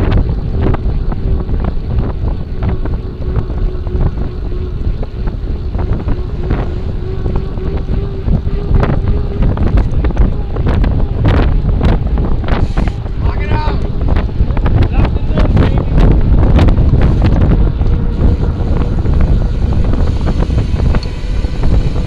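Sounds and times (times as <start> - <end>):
bicycle rattles over bumps: 0.0 - 22.0
tyres rumbling on asphalt: 0.0 - 22.0
wind buffeting microphone: 0.0 - 22.0.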